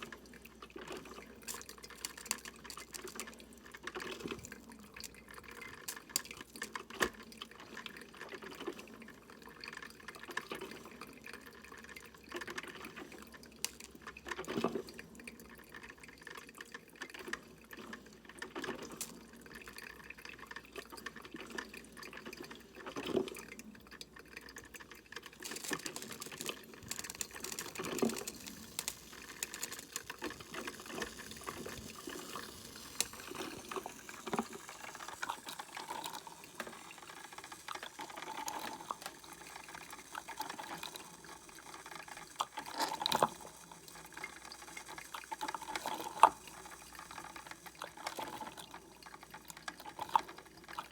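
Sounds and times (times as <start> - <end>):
coffee maker gurgling: 0.0 - 50.9
faint steady hiss: 0.0 - 50.9.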